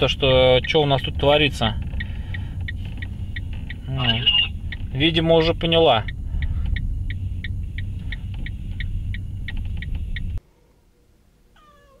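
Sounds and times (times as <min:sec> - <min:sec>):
engine and road rumble: 0:00.0 - 0:10.4
light regular ticks: 0:00.6 - 0:10.4.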